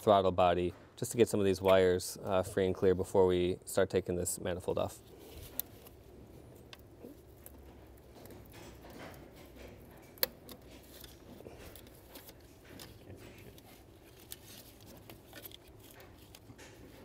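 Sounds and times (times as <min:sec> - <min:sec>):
gloved hands handling plastic: 0:00.8 - 0:17.0.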